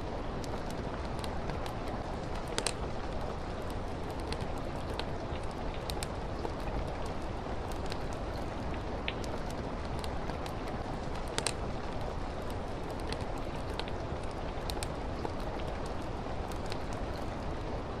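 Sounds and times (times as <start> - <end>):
fireplace crackling: 0.0 - 18.0
steady rain: 0.0 - 18.0.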